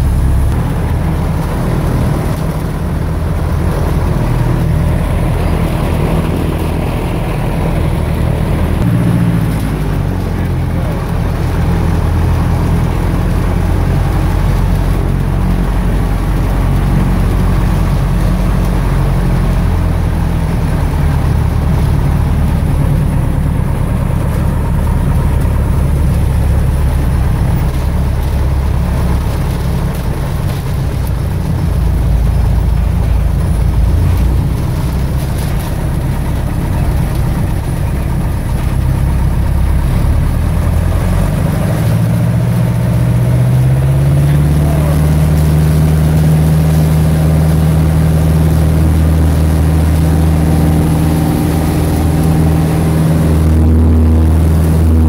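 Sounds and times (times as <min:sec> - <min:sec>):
propeller plane engine: 0:00.0 - 0:55.0.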